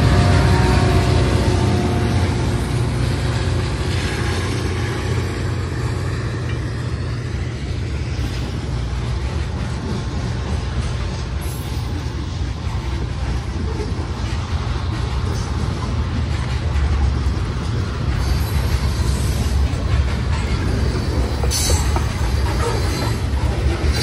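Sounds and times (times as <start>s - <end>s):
diesel train rumbling past: 0.0s - 24.0s.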